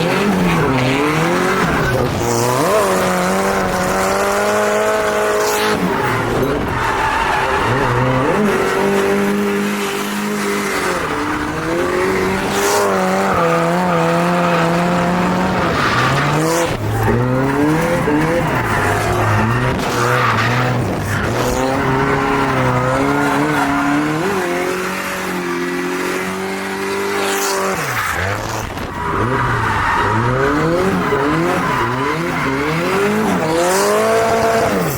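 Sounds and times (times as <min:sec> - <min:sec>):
drift car engine revving: 0:00.0 - 0:34.9
tires squealing: 0:00.0 - 0:34.9.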